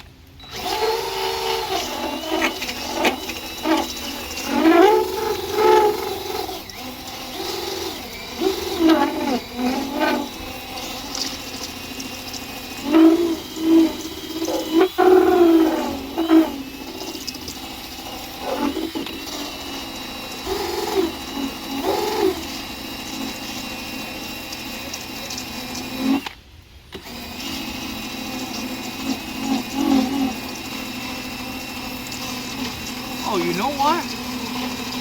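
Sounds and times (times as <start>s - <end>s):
power drill motor whining: 0.0s - 35.0s.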